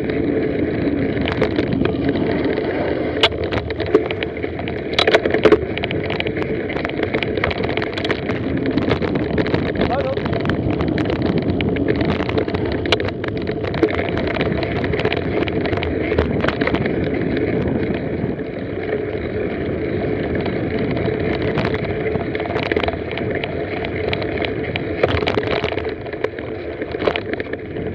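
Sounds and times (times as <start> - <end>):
bike clicks and rattles: 0.0 - 27.9
bike tyres rushing on trail: 0.0 - 27.9.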